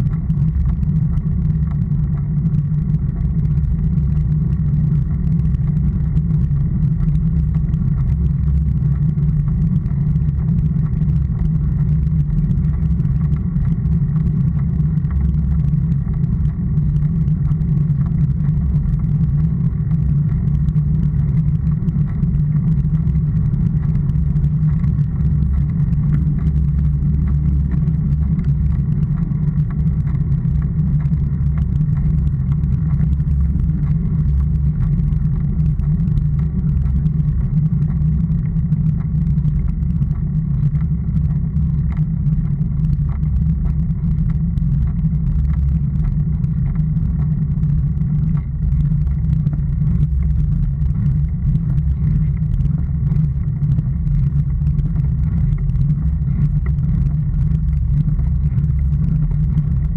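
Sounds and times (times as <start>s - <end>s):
wind and road noise rumble: 0.0s - 59.9s.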